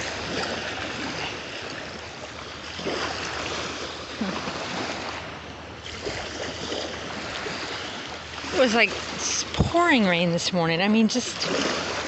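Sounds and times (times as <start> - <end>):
light water splashes: 0.0 - 12.0
small waves lapping on shore: 0.0 - 12.0.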